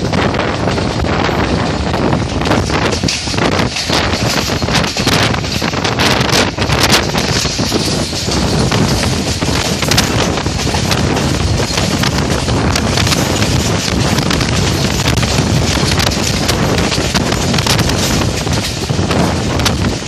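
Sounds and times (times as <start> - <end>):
train rumbling on rails: 0.0 - 20.0
wind buffeting microphone: 0.0 - 20.0.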